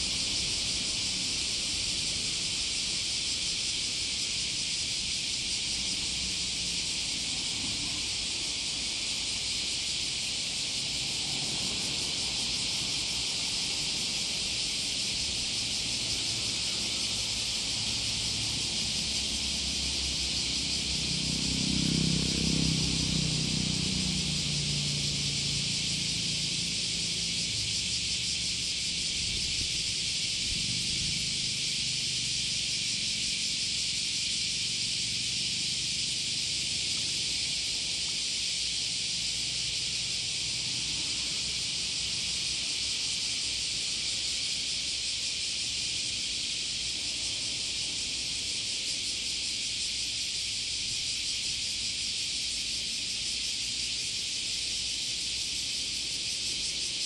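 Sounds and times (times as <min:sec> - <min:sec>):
high-pitched outdoor hiss: 0:00.0 - 0:57.0.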